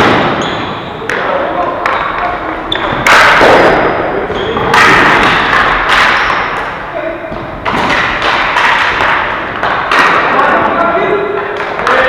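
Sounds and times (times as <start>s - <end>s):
ball and sticks hitting boards: 0.0s - 12.0s.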